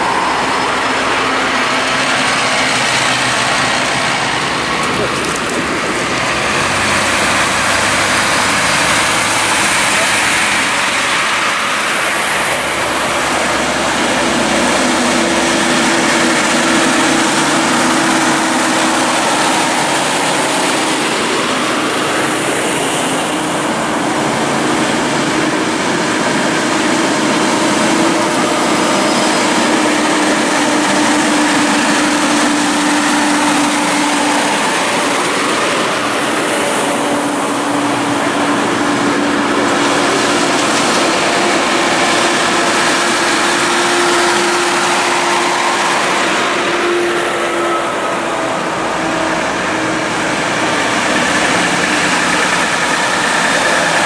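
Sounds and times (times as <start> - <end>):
heavy trucks passing: 0.0 - 54.0.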